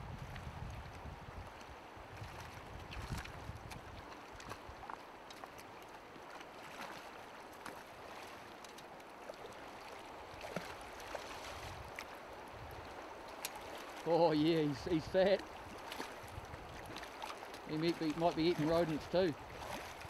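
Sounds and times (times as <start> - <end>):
small splashes: 1.6 - 20.0
water rushing over stones: 2.5 - 20.0.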